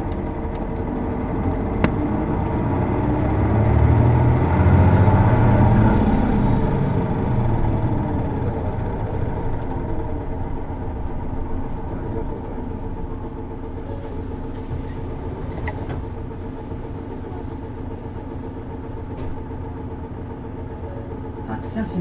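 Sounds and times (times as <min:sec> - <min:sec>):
bus diesel engine whining: 0:00.0 - 0:22.0.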